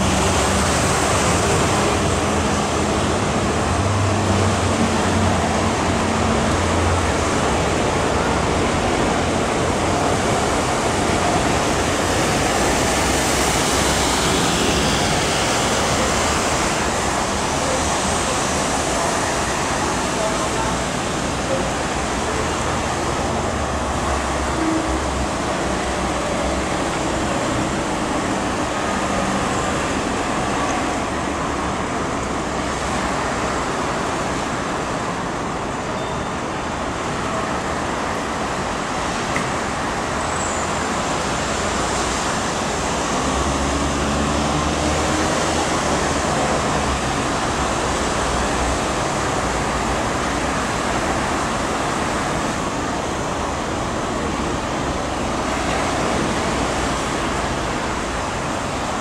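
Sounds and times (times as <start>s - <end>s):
traffic rumble and hiss: 0.0s - 59.0s.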